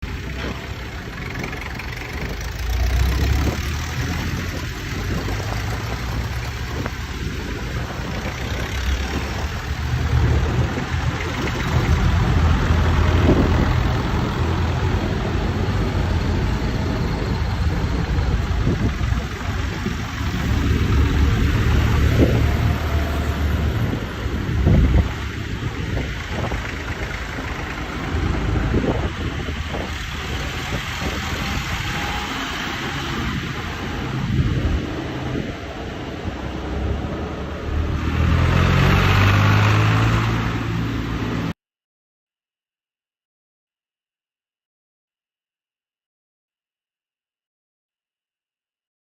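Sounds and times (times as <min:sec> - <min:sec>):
tractor engines driving past: 0:00.0 - 0:41.6.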